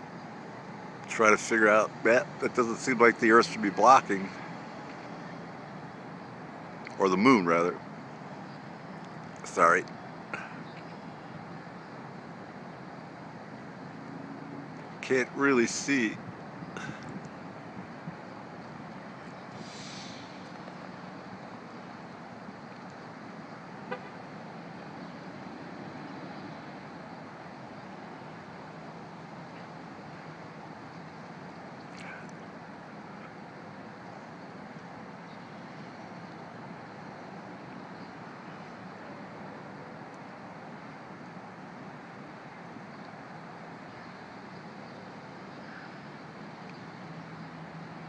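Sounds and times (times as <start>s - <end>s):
distant road traffic: 0.0s - 48.0s
outdoor hiss and rumble: 0.0s - 48.0s.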